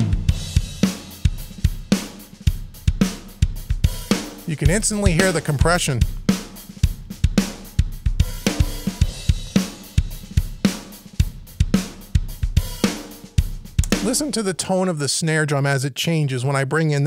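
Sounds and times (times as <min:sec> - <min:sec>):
drum kit playing steady beat: 0:00.0 - 0:14.8.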